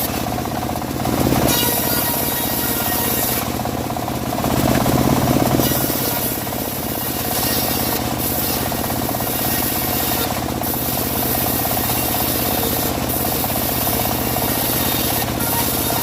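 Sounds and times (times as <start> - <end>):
bandsaw mill engine running: 0.0 - 16.0.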